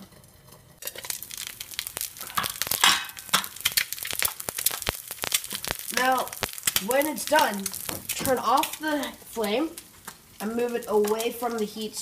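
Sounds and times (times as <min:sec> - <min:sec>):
eggs popping in hot oil: 0:00.0 - 0:12.0.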